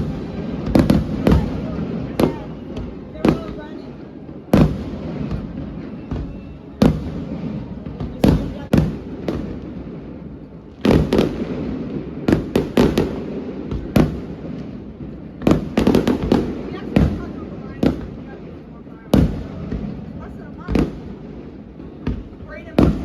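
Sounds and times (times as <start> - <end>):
fireworks banging: 0.0 - 23.0.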